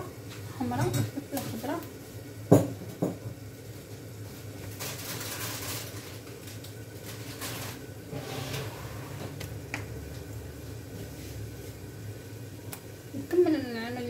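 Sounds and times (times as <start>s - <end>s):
gas burner hiss and hum: 0.0s - 14.0s.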